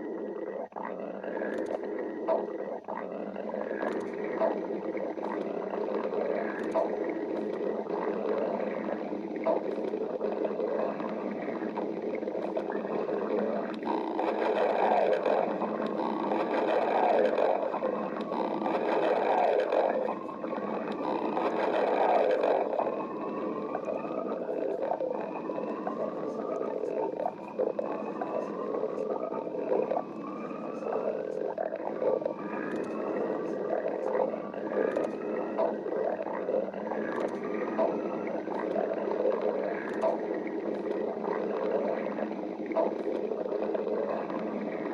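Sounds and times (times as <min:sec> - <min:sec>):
stomach growling: 0:00.0 - 0:44.9.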